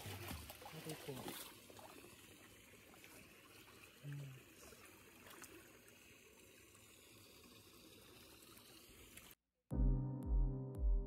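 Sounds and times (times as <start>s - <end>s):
water trickling and sloshing: 0.0s - 9.4s.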